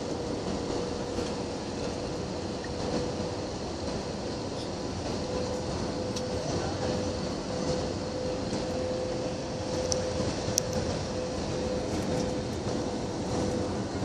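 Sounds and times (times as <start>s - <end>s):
airliner engines and airflow rushing: 0.0s - 14.0s
constant hum: 0.0s - 14.0s.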